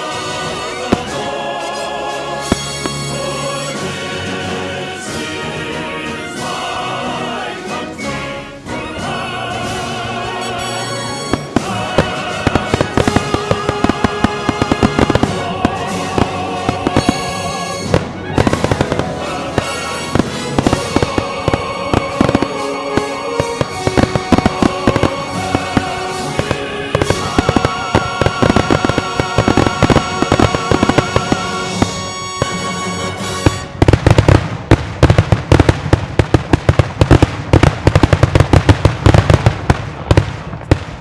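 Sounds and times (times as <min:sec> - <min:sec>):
fireworks bangs and crackles: 0:00.0 - 0:05.3, 0:09.0 - 0:41.0
loud music: 0:00.0 - 0:34.3.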